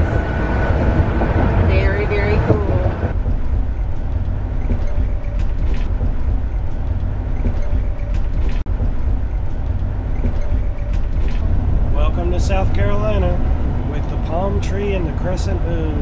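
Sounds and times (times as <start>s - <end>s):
road and engine rumble in cab: 0.0s - 16.0s.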